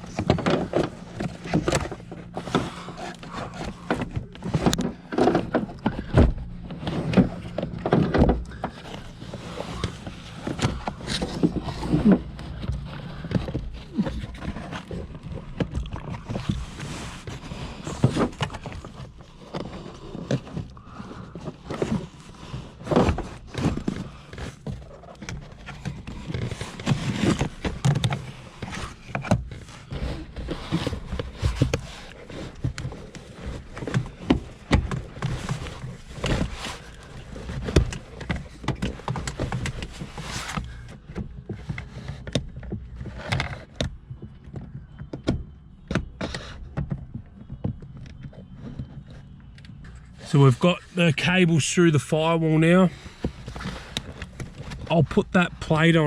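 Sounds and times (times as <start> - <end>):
knocks clunks and rubbing: 0.0 - 56.0.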